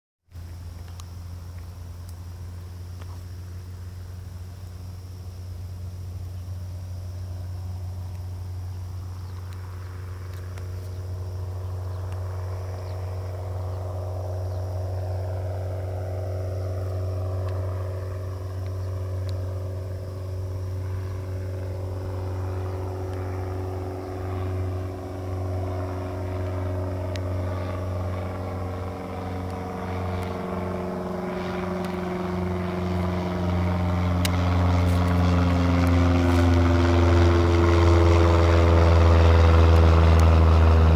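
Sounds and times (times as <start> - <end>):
light aircraft engine droning: 0.3 - 40.9.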